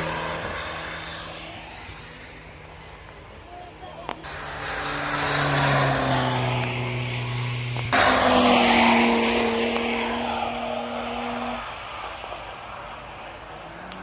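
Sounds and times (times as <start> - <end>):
vehicle engine: 0.0 - 14.0.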